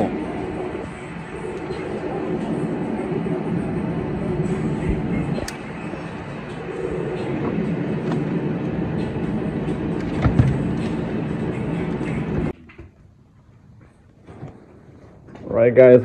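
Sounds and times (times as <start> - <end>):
mechanical running hum: 0.0 - 15.4.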